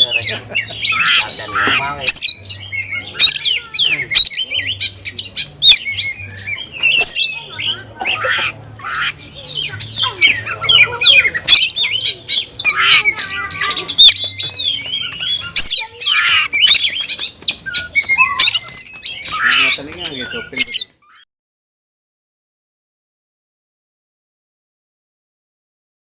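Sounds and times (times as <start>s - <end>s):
bird singing: 0.0s - 21.3s.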